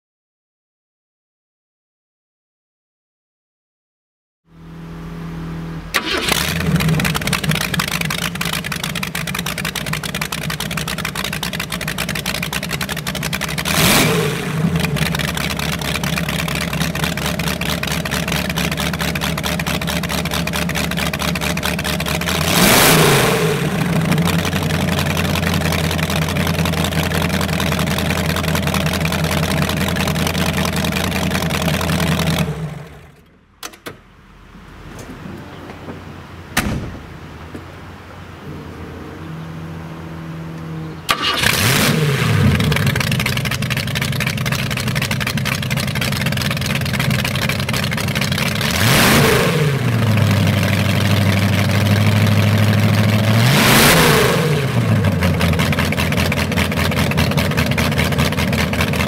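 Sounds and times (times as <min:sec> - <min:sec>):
drag car engine idling and revving: 0:04.5 - 0:33.4, 0:34.1 - 0:59.0.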